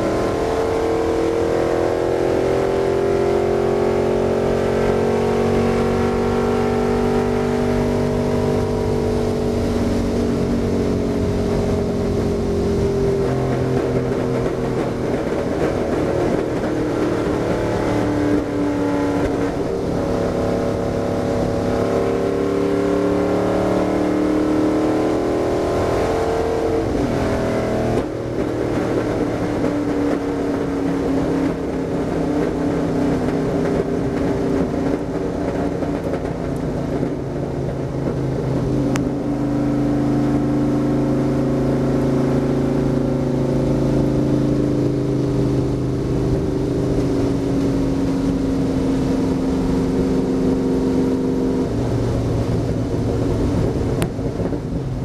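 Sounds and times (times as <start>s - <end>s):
race car engine running hard: 0.0s - 55.0s
road and wind noise: 0.0s - 55.0s.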